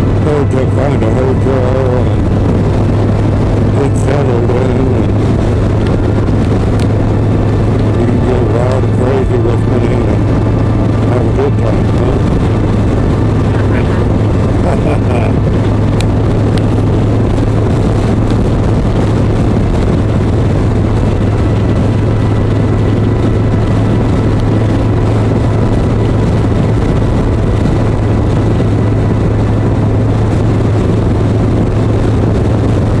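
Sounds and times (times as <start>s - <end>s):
motorcycle engine cruising: 0.0s - 33.0s
wind and road noise: 0.0s - 33.0s.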